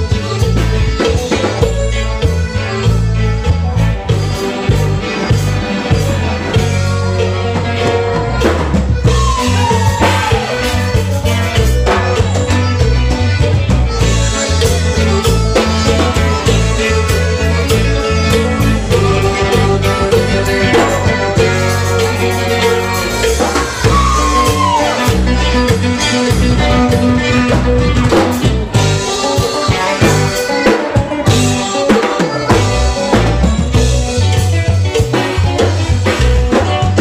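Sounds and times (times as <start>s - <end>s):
dance band music: 0.0s - 37.0s.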